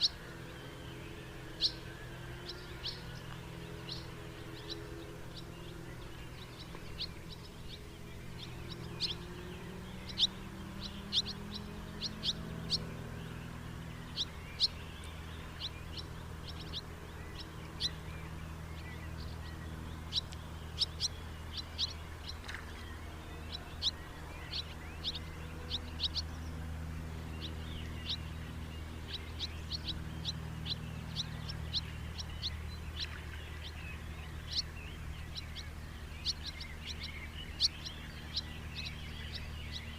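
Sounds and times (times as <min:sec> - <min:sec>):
house martins chirping: 0:00.0 - 0:39.9
steady low rumble: 0:00.0 - 0:39.9.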